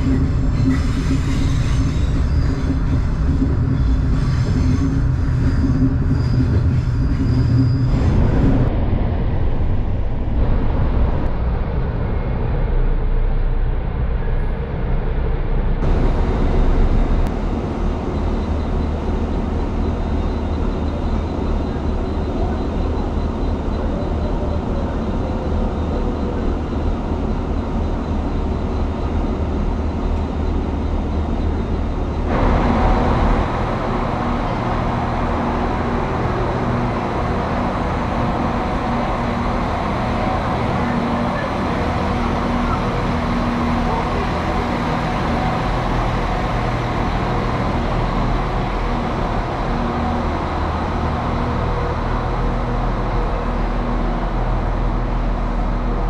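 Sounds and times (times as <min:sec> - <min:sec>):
diesel railcar engine hum: 0:00.0 - 0:56.0
passing train rumble: 0:00.0 - 0:56.0.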